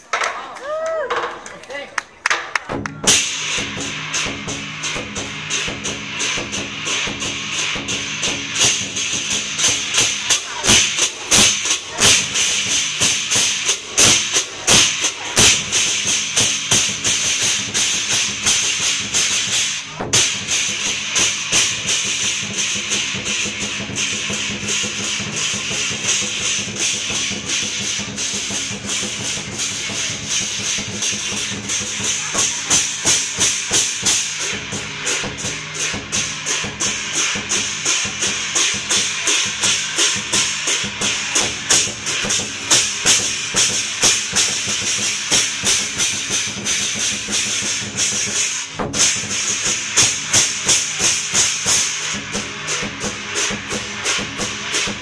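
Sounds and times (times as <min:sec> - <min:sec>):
large drum beaten fast: 0:02.6 - 0:55.0
clashing cymbals: 0:03.0 - 0:55.0.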